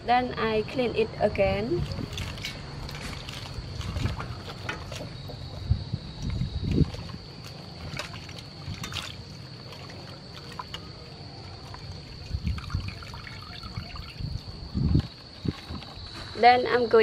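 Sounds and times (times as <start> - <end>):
water splashing in a steel bowl: 1.8 - 16.0
water trickling: 1.8 - 16.1.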